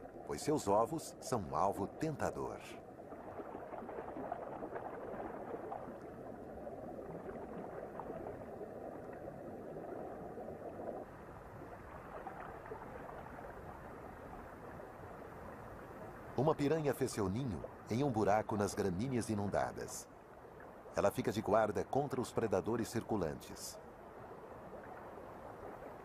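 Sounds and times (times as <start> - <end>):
underwater water noise: 0.0 - 26.0.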